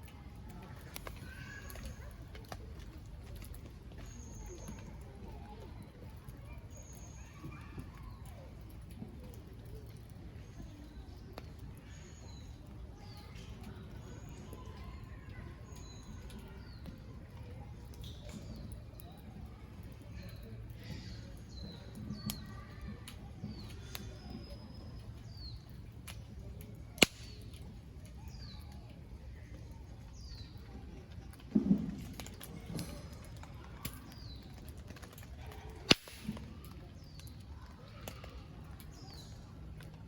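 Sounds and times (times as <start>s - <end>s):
wood fire crackling: 0.0s - 7.3s, 7.9s - 40.0s.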